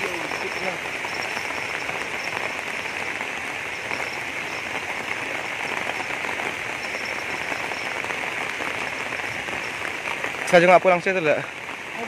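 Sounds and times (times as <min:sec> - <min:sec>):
fast-flowing river rushing: 0:00.0 - 0:12.0
rain: 0:00.0 - 0:12.0.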